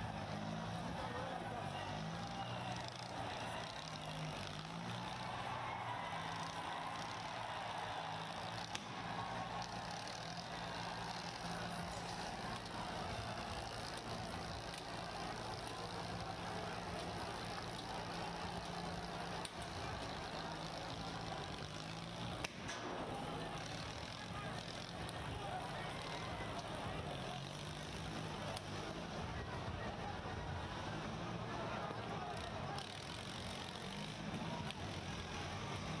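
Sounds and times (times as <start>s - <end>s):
large crowd din: 0.0s - 36.0s
tractor diesel engines running: 0.0s - 36.0s.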